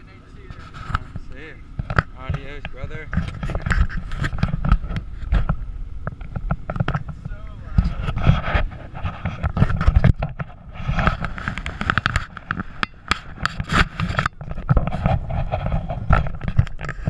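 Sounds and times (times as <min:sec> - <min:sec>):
camera handling knocks and scrapes: 0:00.4 - 0:17.0.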